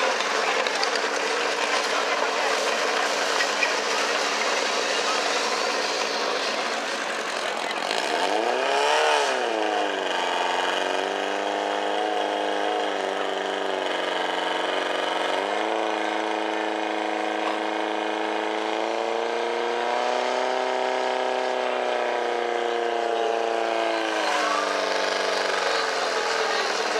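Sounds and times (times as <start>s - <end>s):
fire pump engine running hard: 0.0s - 26.9s.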